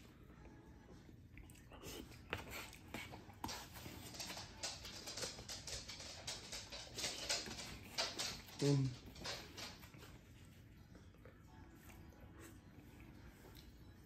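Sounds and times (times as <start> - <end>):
moist chewing: 0.9 - 14.0.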